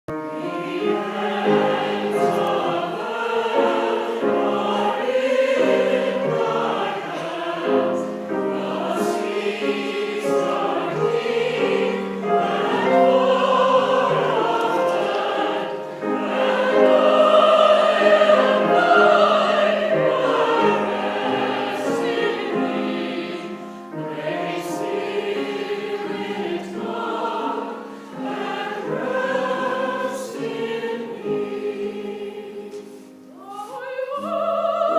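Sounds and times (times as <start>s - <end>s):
choir singing in harmony: 0.1s - 34.9s.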